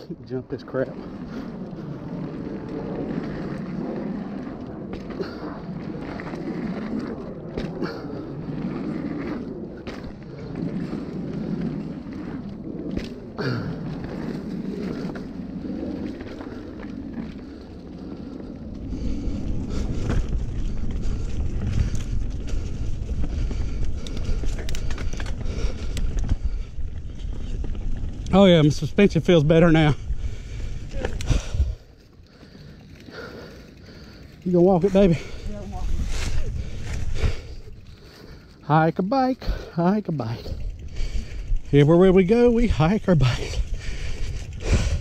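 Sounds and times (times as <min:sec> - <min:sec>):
bike tyres rolling on dirt: 0:00.0 - 0:45.0
bike knocking and rattling: 0:00.6 - 0:45.0
wind on microphone: 0:01.0 - 0:31.8, 0:34.9 - 0:38.0, 0:40.5 - 0:45.0.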